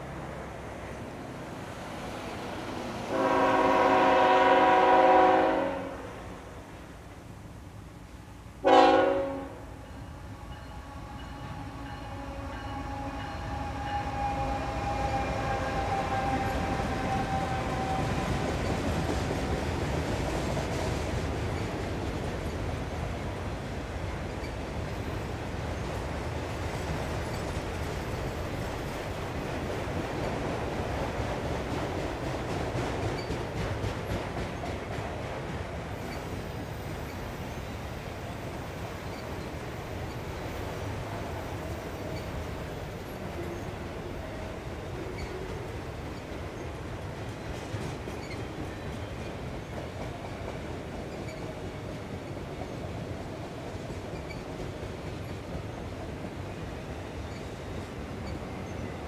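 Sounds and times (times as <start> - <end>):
diesel locomotives passing: 0.0 - 59.0
train cars rumbling over rails: 0.0 - 59.0.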